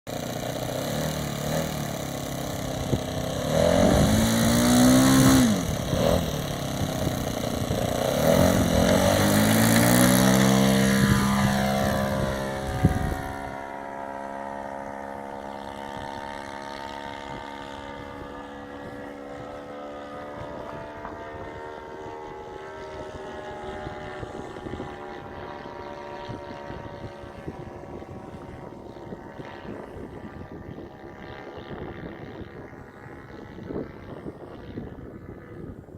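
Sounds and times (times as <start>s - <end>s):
model airplane engine droning: 0.1s - 35.9s.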